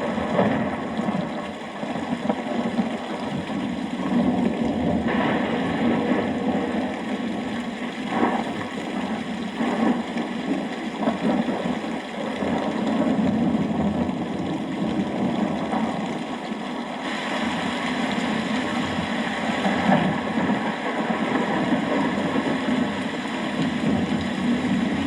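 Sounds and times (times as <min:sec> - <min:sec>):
low rumble of thunder: 0:00.0 - 0:25.0
rain falling: 0:00.0 - 0:25.0.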